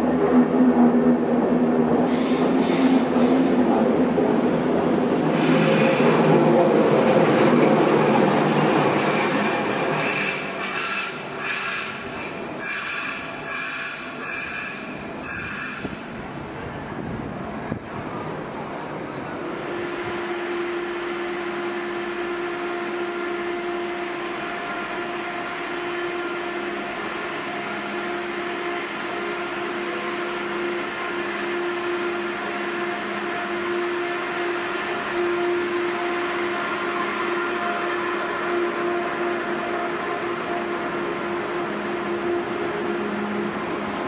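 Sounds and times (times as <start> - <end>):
electric train humming: 0.0 - 44.0
train rolling: 0.0 - 44.0.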